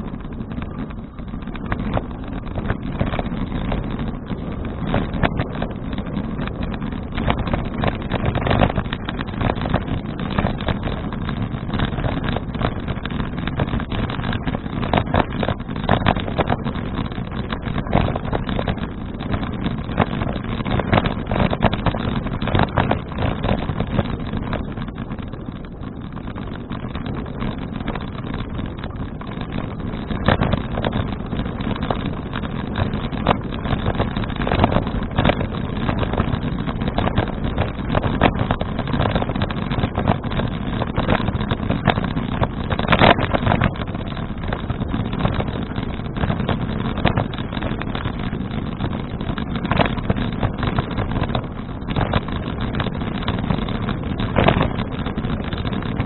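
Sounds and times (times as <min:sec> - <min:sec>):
knocks and rattles: 0:00.0 - 0:56.0
wind buffeting microphone: 0:00.0 - 0:56.0.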